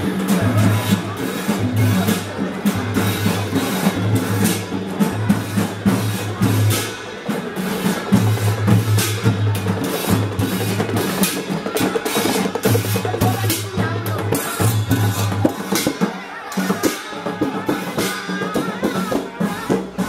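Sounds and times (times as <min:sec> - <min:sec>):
drums and cymbals beat: 0:00.0 - 0:20.0.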